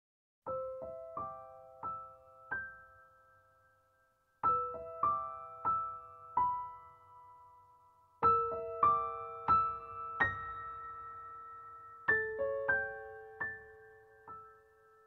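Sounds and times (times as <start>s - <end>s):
soft piano music: 0.4s - 15.0s.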